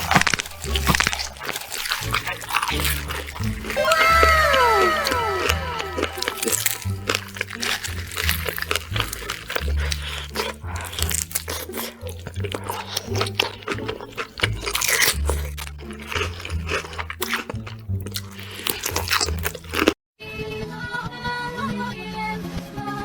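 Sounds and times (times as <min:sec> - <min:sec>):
crunchy food chewing: 0:00.0 - 0:20.0.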